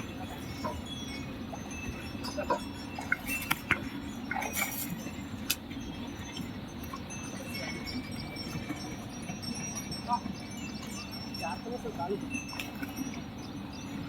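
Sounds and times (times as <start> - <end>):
small bells jingling: 0.0 - 14.0.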